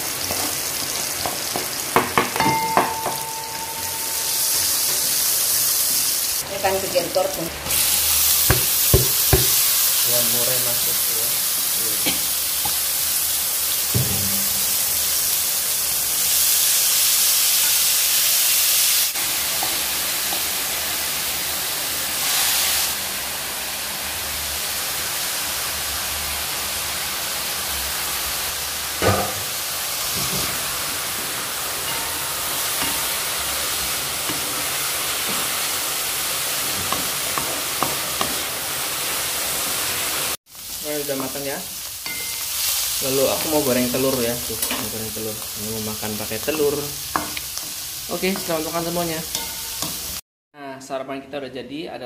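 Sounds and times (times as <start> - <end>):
mushrooms sizzling in a wok: 0.0 - 50.2.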